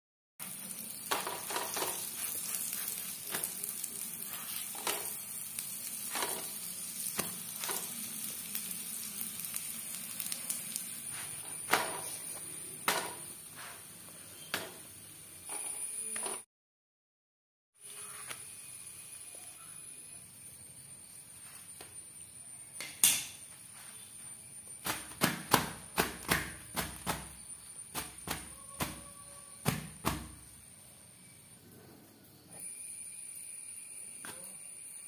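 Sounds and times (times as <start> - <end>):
flatbread sizzling on hot iron: 0.4 - 16.5, 17.8 - 31.6, 32.3 - 35.0.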